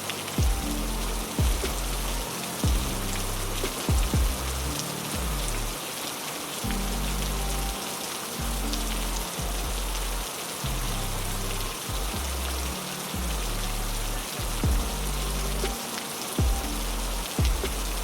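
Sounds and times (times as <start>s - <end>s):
heavy rain falling: 0.0s - 18.0s
low sustained notes: 0.0s - 18.0s.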